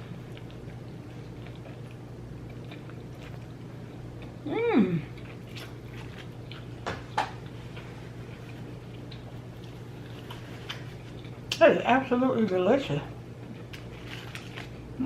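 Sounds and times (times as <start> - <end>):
chewing sandwich: 0.0 - 4.4, 5.1 - 11.6, 13.4 - 15.0.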